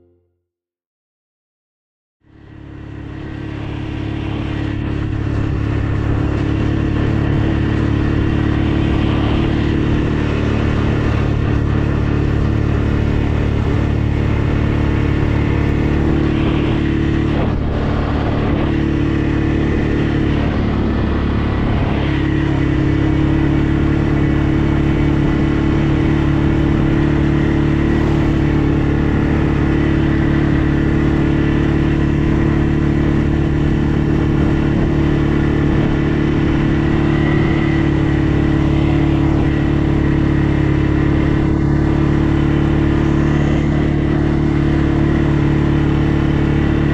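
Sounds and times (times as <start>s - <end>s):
atv engine droning: 0.0s - 0.3s, 2.2s - 46.9s.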